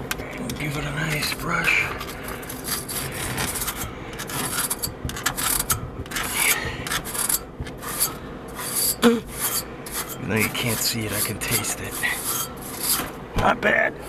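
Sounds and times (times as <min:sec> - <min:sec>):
stiff brush scraping coil fins: 0:00.0 - 0:14.0.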